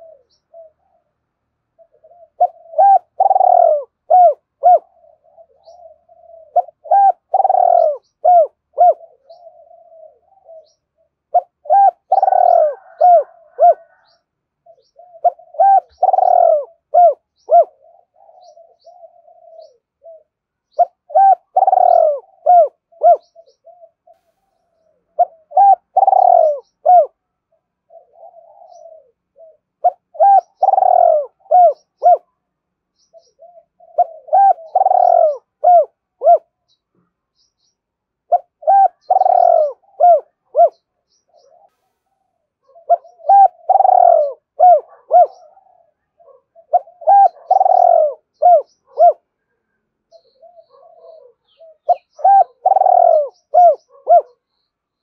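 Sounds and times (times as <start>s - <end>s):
dove cooing: 0.0s - 32.4s, 33.0s - 36.7s, 38.2s - 54.4s.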